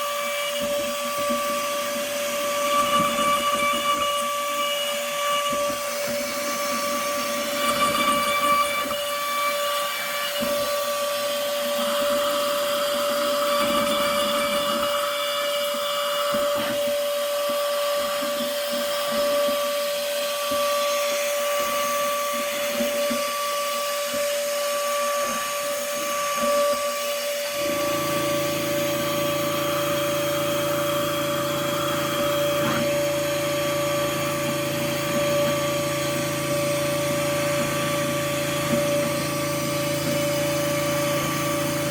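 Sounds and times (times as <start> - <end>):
cutter rasping wood: 0.0 - 41.9
router spindle whining: 0.0 - 41.9.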